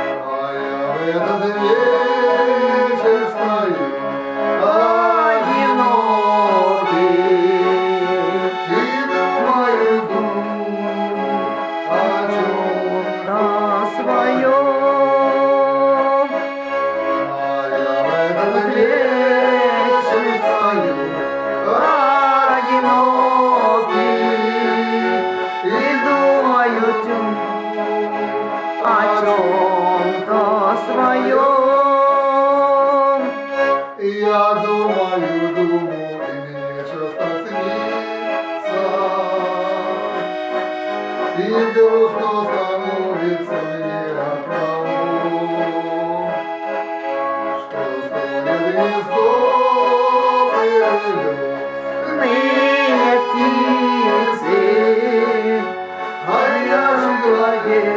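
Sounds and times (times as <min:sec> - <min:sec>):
button accordion playing melody: 0:00.0 - 0:57.9.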